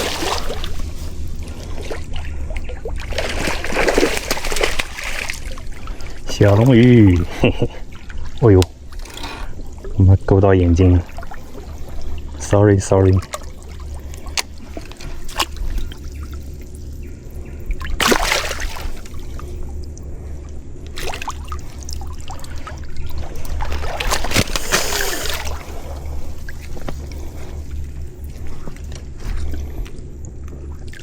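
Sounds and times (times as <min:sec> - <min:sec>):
water trickling and splashing: 0:00.0 - 0:29.8.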